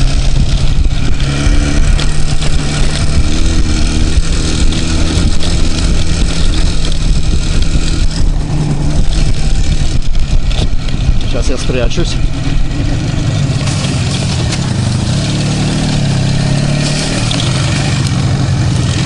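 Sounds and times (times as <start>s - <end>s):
two-stroke motorcycle engine: 0.0s - 19.0s.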